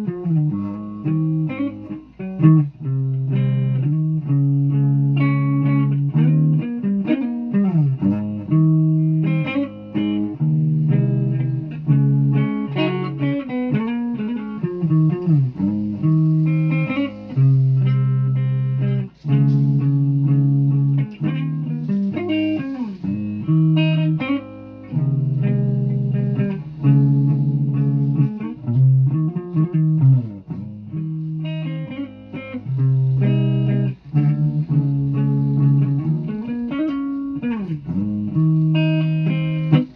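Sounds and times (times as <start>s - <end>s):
guitar with pitch bends: 0.0s - 39.9s.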